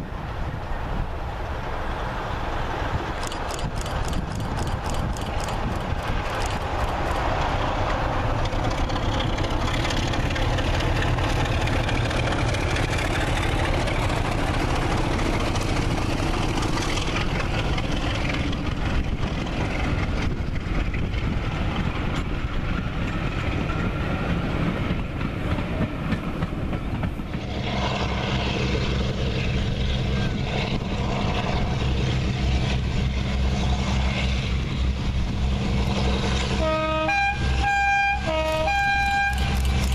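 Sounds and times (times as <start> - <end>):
diesel locomotives approaching: 0.0 - 39.9
diesel locomotives passing: 0.0 - 39.9
train coaches rumbling and clattering: 0.0 - 39.9.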